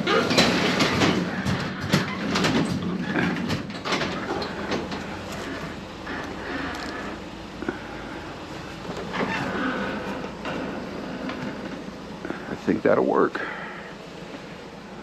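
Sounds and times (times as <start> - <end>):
garage door rattling along tracks: 0.0 - 12.6.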